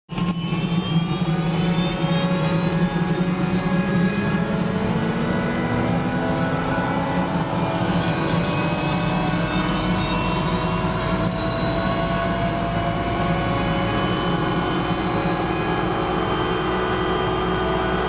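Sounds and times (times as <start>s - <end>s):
helicopter engine running: 0.1s - 18.0s
high whine rising in pitch: 0.1s - 18.0s.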